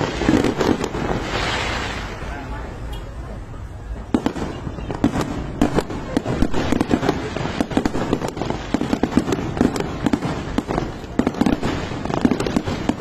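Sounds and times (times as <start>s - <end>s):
fireworks bangs and pops: 0.0s - 2.5s, 4.0s - 13.0s.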